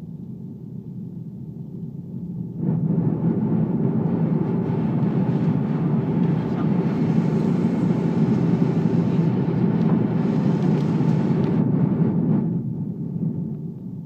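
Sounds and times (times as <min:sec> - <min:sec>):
airliner cabin engine noise: 0:00.0 - 0:14.0.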